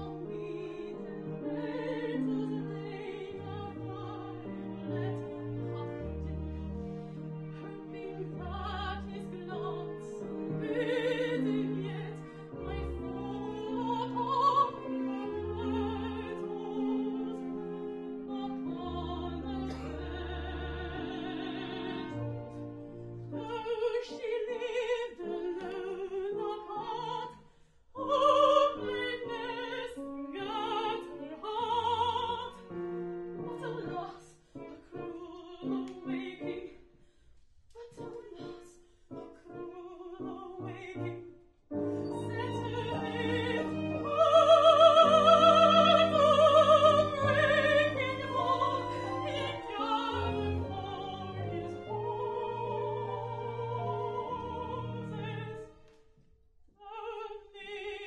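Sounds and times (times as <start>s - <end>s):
woman singing operatically: 0.0s - 6.3s, 7.6s - 22.4s, 23.3s - 27.3s, 28.0s - 32.8s, 33.4s - 36.8s, 39.4s - 41.2s, 42.1s - 55.7s, 56.8s - 58.0s.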